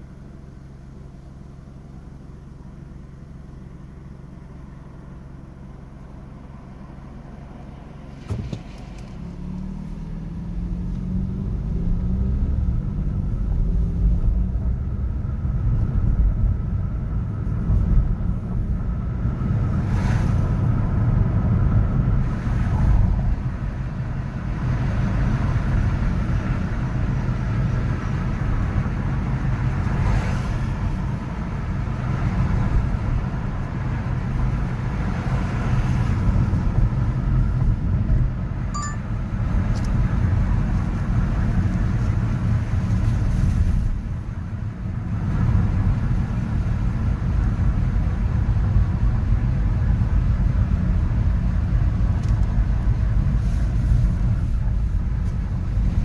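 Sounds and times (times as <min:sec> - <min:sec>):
road traffic rumble: 0:00.0 - 0:56.0
passing vehicles: 0:03.8 - 0:56.0.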